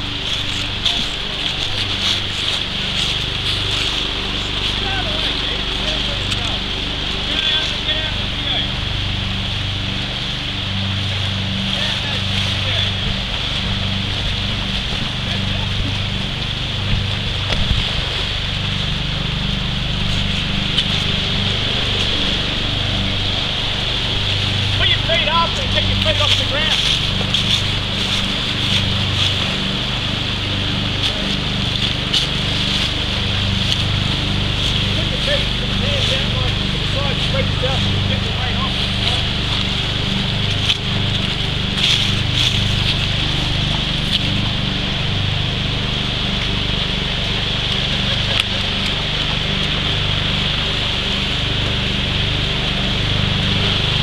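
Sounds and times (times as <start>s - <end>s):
faint clicks and splashes: 0.0s - 54.0s
low rumble: 0.0s - 54.0s
low steady hum: 0.0s - 54.0s
river rapids rushing: 0.0s - 54.0s.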